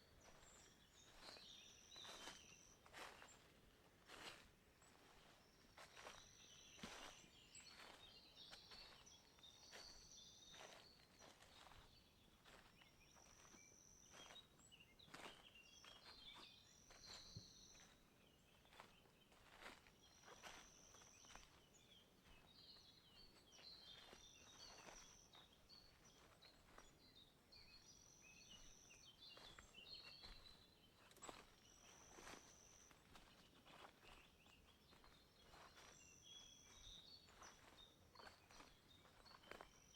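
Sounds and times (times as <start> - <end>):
footsteps on forest path: 0.1 - 39.9.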